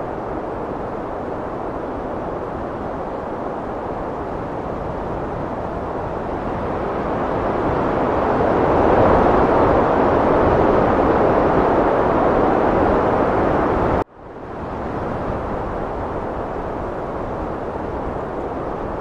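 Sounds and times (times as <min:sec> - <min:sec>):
heavy wind rushing: 0:00.0 - 0:19.0.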